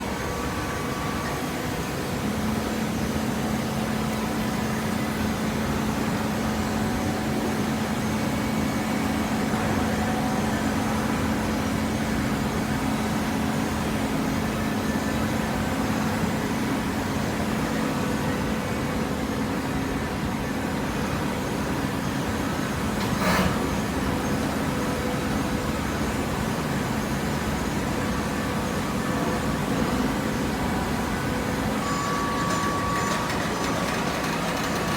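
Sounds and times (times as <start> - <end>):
conveyor machinery running: 0.0 - 34.9.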